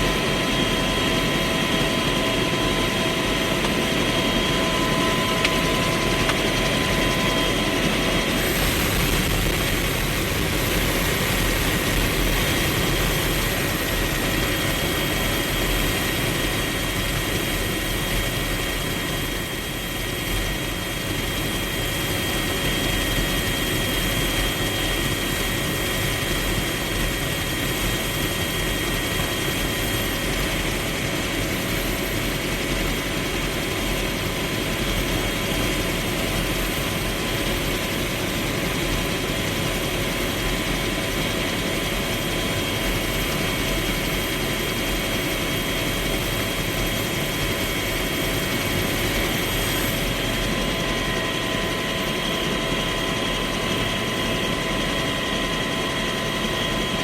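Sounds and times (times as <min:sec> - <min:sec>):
helicopter engine and rotor noise: 0:00.0 - 0:57.0
high turbine whine: 0:00.0 - 0:57.0.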